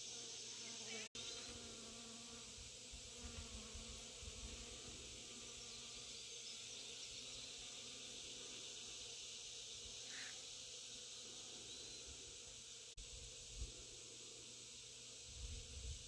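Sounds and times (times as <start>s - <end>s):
bees buzzing: 0.0s - 15.1s
steady high hiss: 0.0s - 16.0s.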